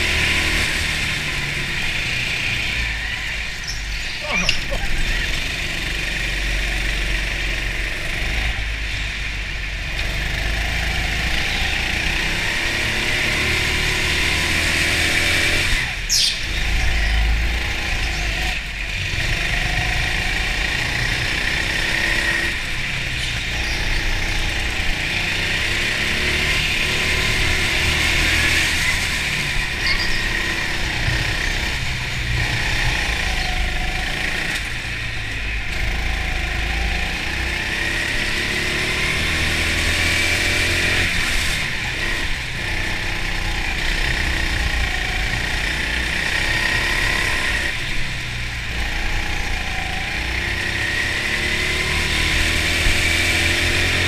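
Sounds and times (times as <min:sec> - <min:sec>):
go-kart motor racing: 0:00.0 - 0:54.0.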